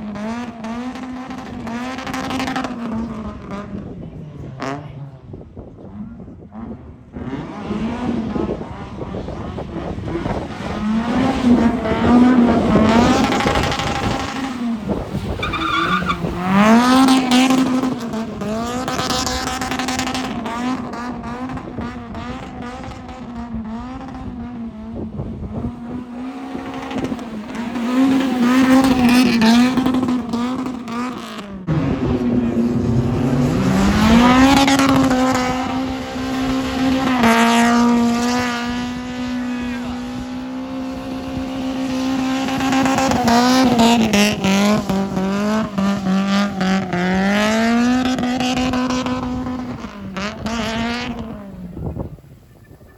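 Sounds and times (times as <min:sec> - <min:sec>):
car engine at high revs: 0:00.0 - 0:52.6
tyres skidding: 0:00.0 - 0:52.9.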